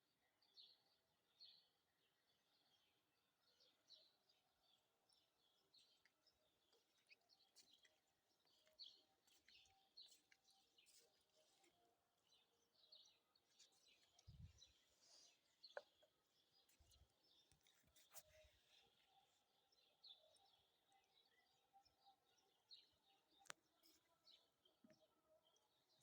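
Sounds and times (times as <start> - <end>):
small birds chirping: 2.5 - 26.0.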